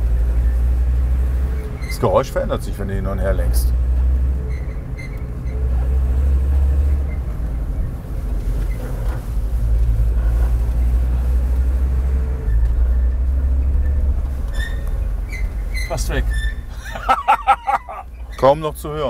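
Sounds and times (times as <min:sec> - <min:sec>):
wheel rubbing grind: 0:00.0 - 0:18.7
van driving rumble: 0:00.0 - 0:19.0.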